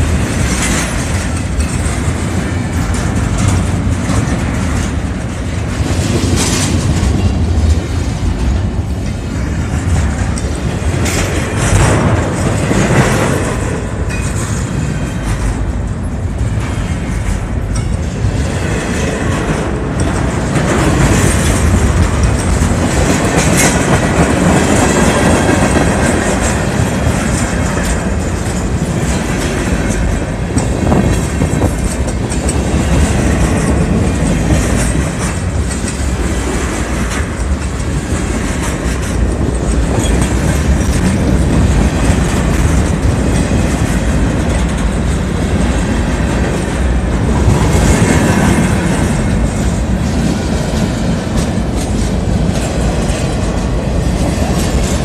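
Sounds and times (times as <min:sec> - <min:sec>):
freight train rumble: 0:00.0 - 0:55.0
train wheels clacking on rails: 0:00.0 - 0:55.0.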